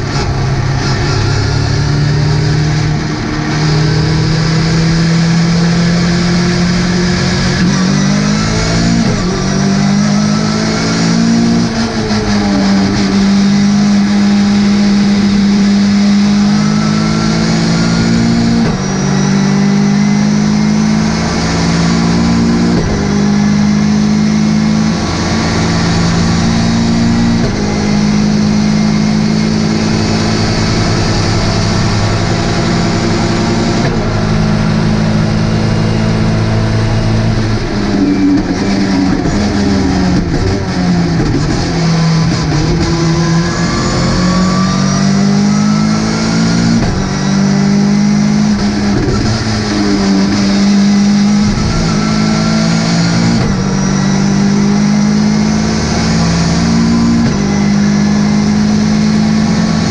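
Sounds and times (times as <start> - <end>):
race car engine shifting gears: 0.0 - 59.9.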